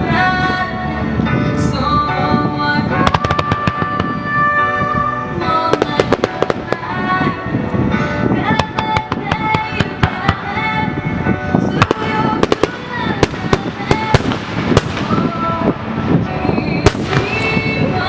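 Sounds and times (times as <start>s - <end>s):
fireworks bursting and crackling: 0.0s - 18.0s
music with long held notes: 0.0s - 18.0s.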